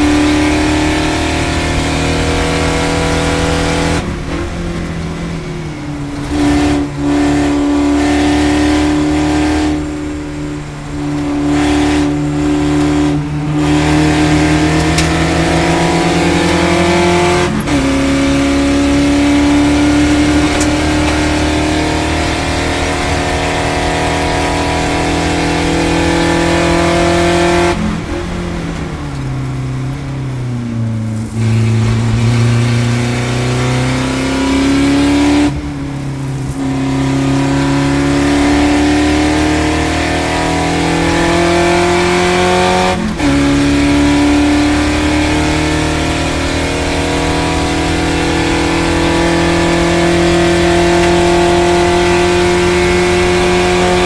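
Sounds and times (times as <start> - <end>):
racing car engine: 0.0 - 54.0.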